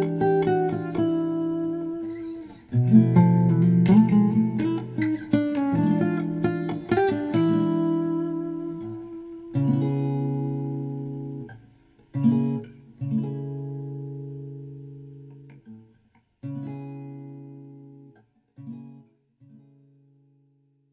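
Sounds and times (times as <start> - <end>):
acoustic guitar chords: 0.0 - 20.4.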